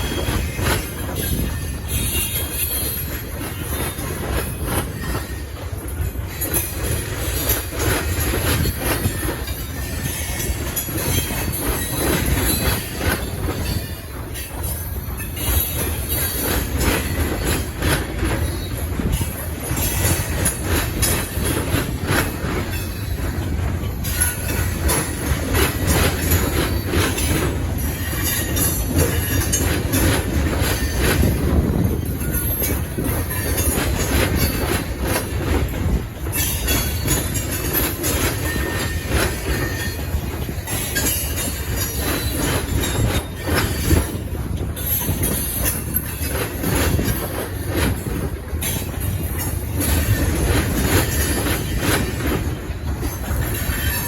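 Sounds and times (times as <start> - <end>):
freight train rolling past: 0.0 - 54.0
steel wheels squealing: 0.0 - 54.0
wheels clacking over rail joints: 0.0 - 54.0.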